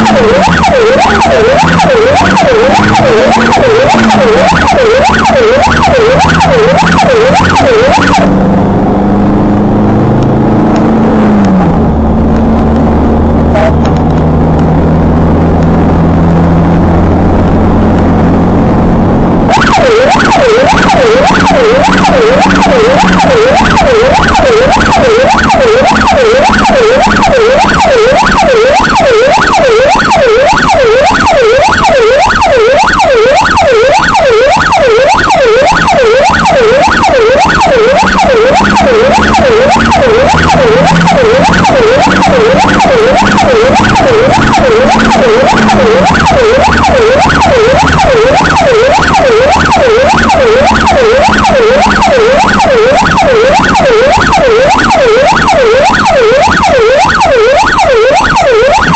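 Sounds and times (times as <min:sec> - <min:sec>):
electronic siren yelping: 0:00.0 - 0:11.9, 0:12.6 - 0:58.9.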